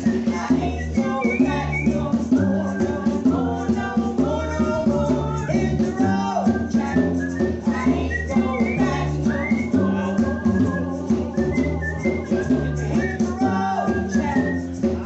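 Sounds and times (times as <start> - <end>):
band with bass line: 0.0 - 15.0
group singing gospel: 0.0 - 15.0
shaker rattle: 0.0 - 15.0.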